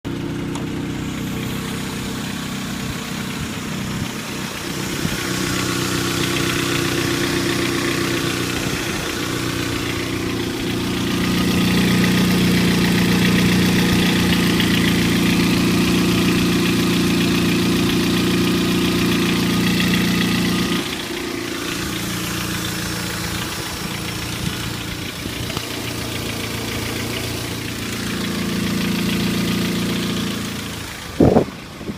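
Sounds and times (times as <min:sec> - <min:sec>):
car engine running: 0:00.0 - 0:31.9.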